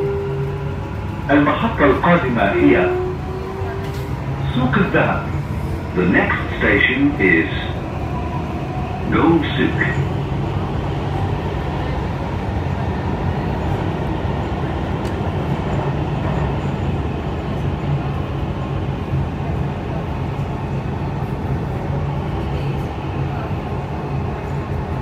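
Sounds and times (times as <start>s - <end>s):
train wheels running on rail: 0.0s - 25.0s.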